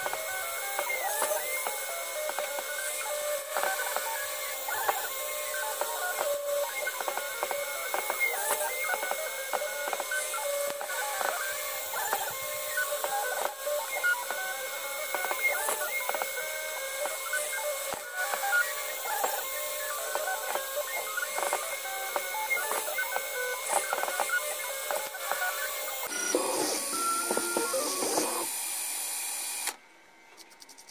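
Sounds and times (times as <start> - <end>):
milling machine motor whine: 0.0 - 29.8.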